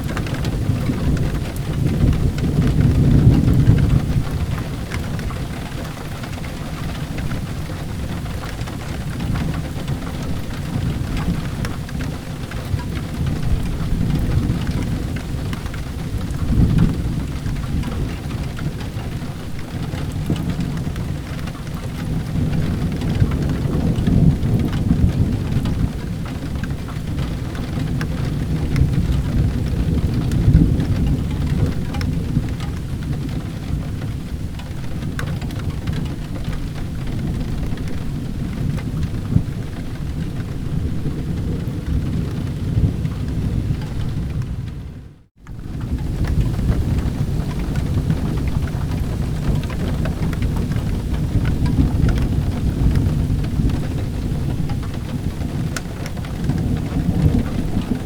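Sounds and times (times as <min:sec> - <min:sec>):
low rolling thunder: 0:00.0 - 0:58.0
steady rain: 0:00.0 - 0:58.0.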